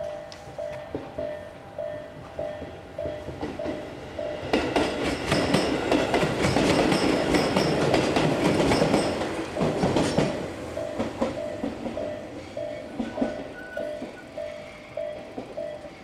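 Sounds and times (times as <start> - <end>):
level crossing warning bell: 0.0 - 16.0
train wheels clattering over joints: 2.2 - 15.9.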